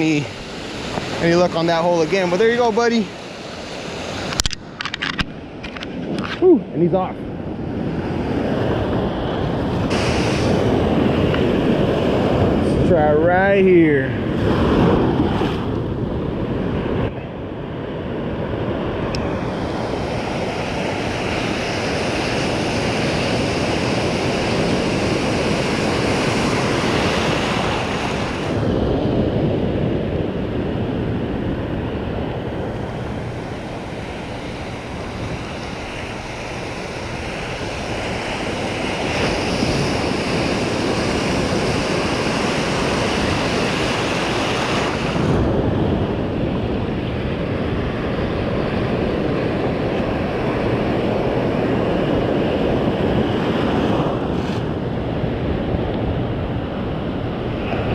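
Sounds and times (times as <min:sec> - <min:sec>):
ocean surf breaking on beach: 0:00.0 - 0:57.9.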